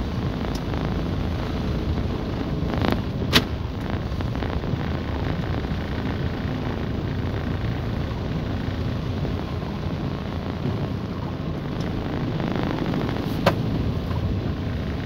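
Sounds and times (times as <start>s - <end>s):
car driving over wet street: 0.0s - 15.0s.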